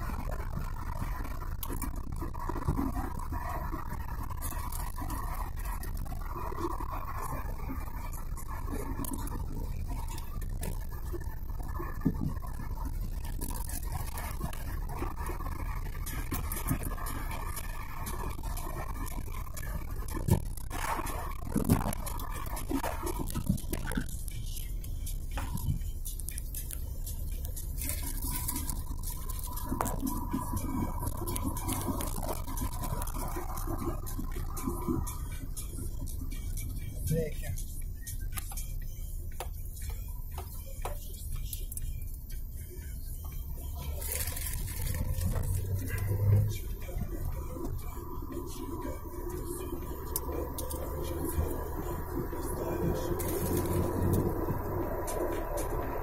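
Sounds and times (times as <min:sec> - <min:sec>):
car engine running: 0:00.0 - 0:56.0
faint steady whine: 0:00.0 - 0:56.0
road and tyre rumble: 0:00.0 - 0:56.0.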